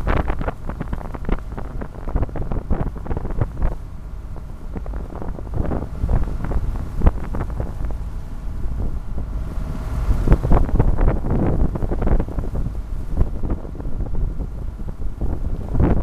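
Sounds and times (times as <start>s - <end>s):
water splashing along boat hull: 0.0s - 16.0s
wind buffeting microphone: 0.0s - 16.0s.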